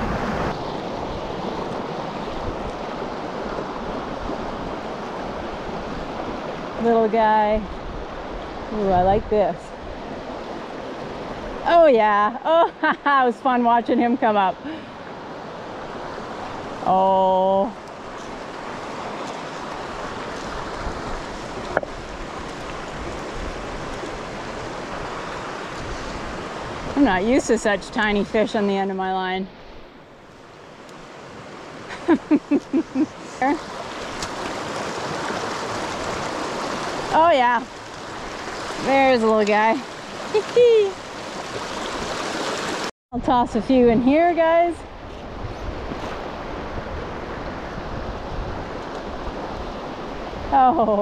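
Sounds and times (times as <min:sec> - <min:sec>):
rocky creek rushing: 0:00.0 - 0:12.4, 0:13.3 - 0:28.9, 0:30.1 - 0:42.9.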